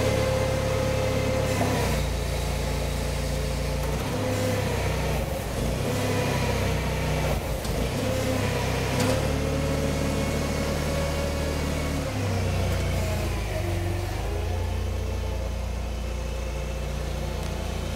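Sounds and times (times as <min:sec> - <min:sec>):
forklift engine running: 0:00.0 - 0:17.9.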